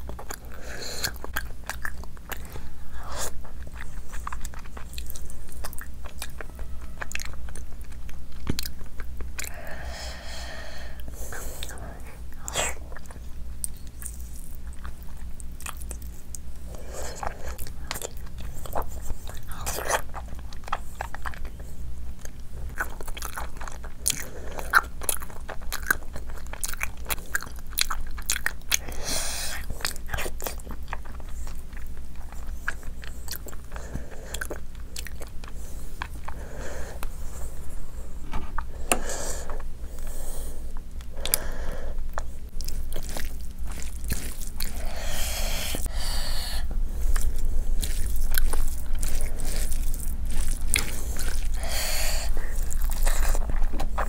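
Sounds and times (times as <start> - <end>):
wet chewing: 0.0 - 37.9, 38.6 - 54.0.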